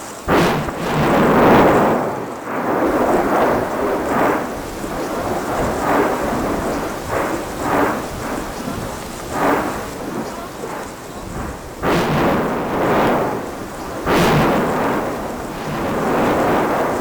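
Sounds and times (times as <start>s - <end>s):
volcanic blasts: 0.0s - 17.0s
volcano rumbling: 0.0s - 17.0s.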